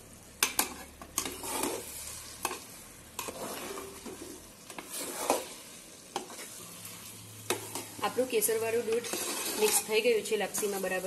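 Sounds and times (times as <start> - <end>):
ghee sizzling in pot: 0.0 - 11.0.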